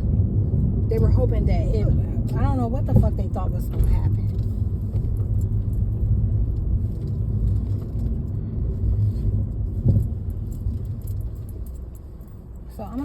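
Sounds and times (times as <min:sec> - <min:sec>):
car rumbling while parking: 0:00.0 - 0:13.0.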